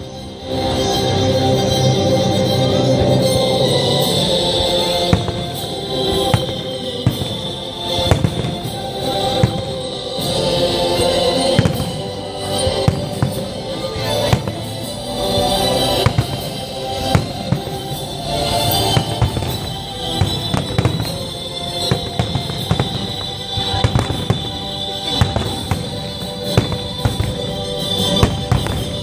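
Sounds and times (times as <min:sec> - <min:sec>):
soundtrack music: 0:00.0 - 0:29.0
firework shells bursting: 0:04.8 - 0:29.0.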